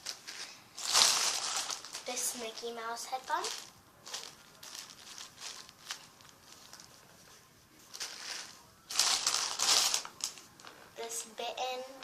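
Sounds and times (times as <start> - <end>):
plastic bag rustling and crinkling: 0.0 - 7.1, 7.8 - 10.8.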